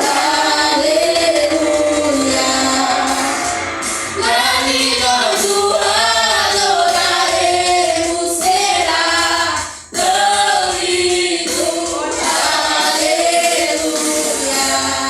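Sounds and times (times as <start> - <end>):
vocal group singing in harmony: 0.0 - 15.0.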